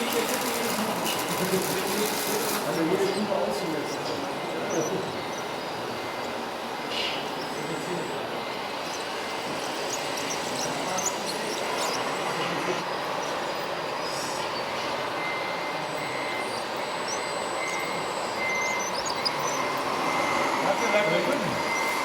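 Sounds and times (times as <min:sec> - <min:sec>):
model truck electric motors whining: 0:00.0 - 0:22.0.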